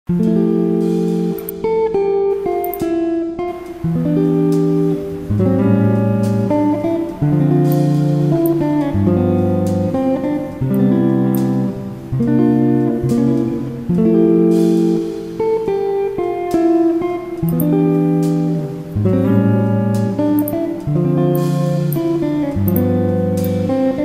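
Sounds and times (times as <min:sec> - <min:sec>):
guitar background music: 0:00.1 - 0:24.0.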